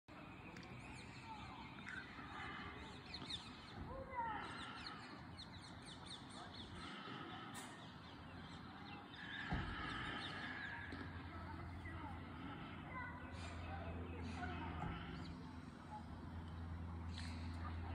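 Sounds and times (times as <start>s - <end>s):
low steady hum: 0.1s - 17.9s.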